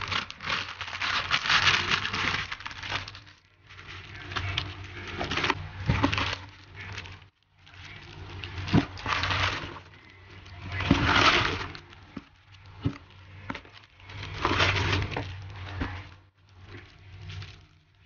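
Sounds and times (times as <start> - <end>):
cellophane crinkling and rustling: 0.0 - 18.0.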